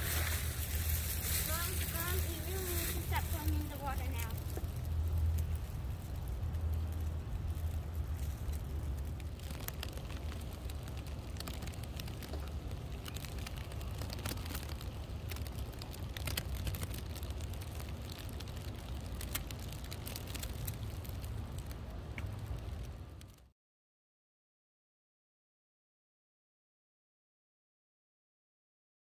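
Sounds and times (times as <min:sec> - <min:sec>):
wind rumbling on microphone: 0:00.0 - 0:23.4
small crackles and ticks: 0:00.0 - 0:23.5.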